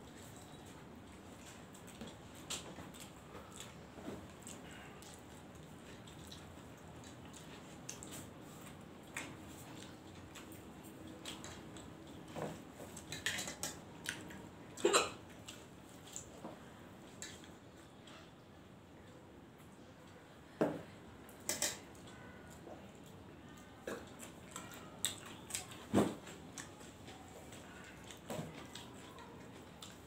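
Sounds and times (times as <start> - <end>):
chewing: 0.1 - 18.4, 21.3 - 30.0.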